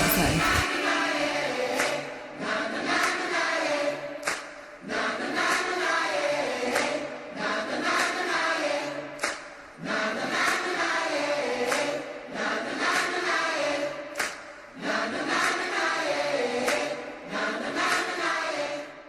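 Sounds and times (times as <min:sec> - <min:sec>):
choir-like chanting music: 0:00.0 - 0:19.0.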